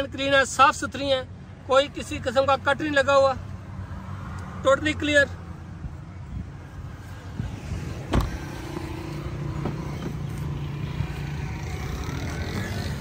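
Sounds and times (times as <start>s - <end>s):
low vehicle engine hum: 0.0s - 13.0s.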